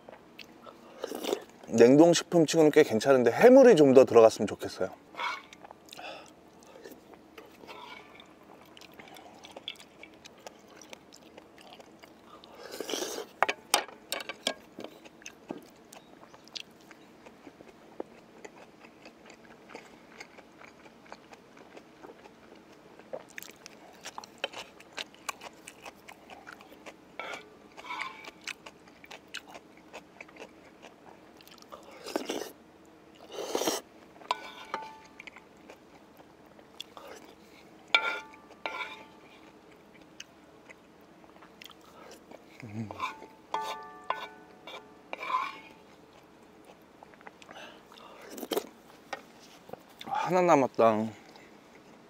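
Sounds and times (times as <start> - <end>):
person chewing food: 0.0 - 1.7, 5.2 - 13.5, 14.4 - 50.2
faint background hum: 0.0 - 52.0.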